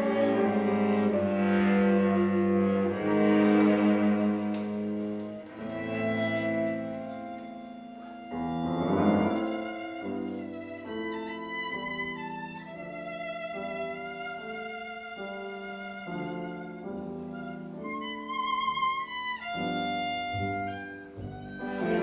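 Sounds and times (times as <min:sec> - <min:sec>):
cello: 0:00.0 - 0:22.0
piano: 0:00.0 - 0:22.0
violin: 0:00.0 - 0:22.0.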